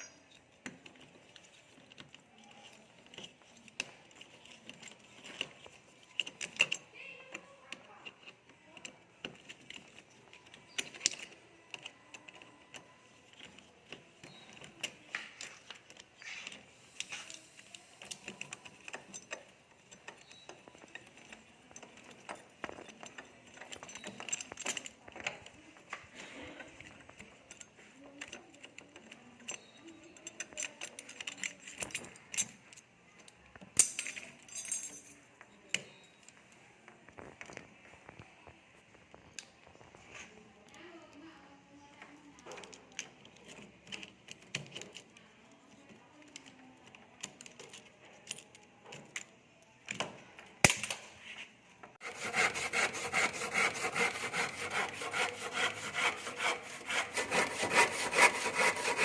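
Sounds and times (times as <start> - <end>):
hand tools and metal hardware clinking: 0.0 - 36.5, 42.4 - 59.0.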